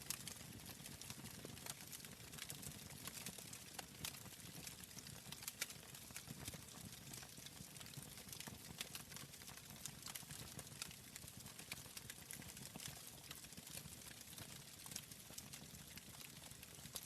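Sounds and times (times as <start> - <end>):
fire popping and snapping: 0.1 - 17.0
wood fire crackling: 0.1 - 17.0.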